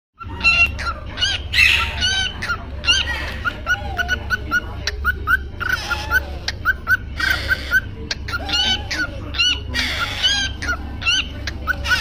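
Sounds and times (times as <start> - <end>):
parrot chicks chirping: 0.2 - 12.0
rasping squawks: 0.2 - 12.0.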